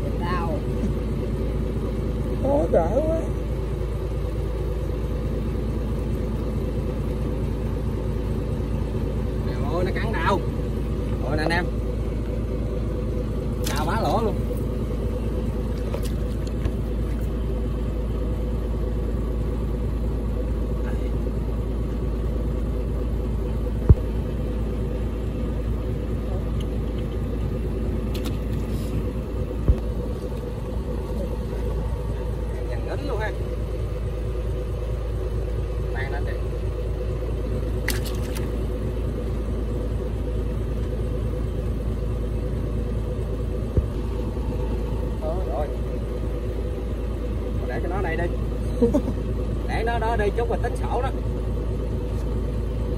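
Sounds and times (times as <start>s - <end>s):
boat engine humming: 0.0s - 52.9s.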